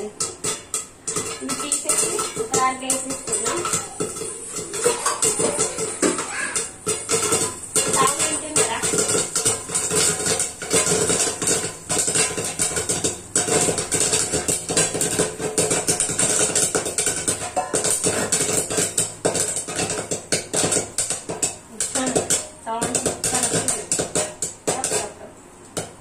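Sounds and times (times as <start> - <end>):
popcorn popping against pan lid: 0.0 - 26.0.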